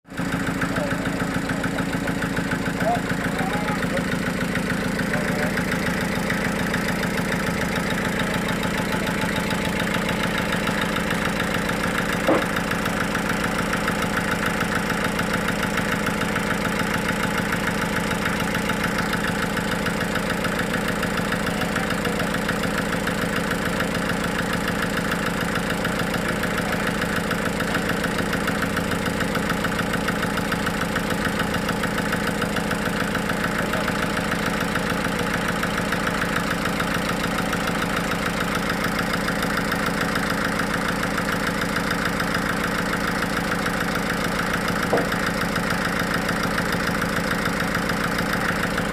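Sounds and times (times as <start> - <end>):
engine idling with pulsing beat: 0.1 - 48.9.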